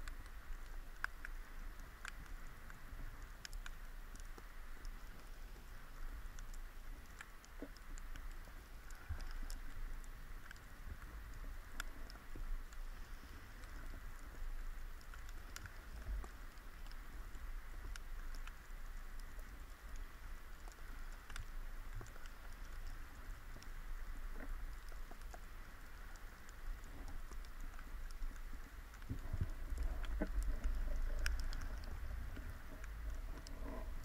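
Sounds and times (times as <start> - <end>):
faint clicks and crackling: 0.0 - 34.0
low rumble of water movement: 0.0 - 34.0
steady hiss: 0.0 - 34.0.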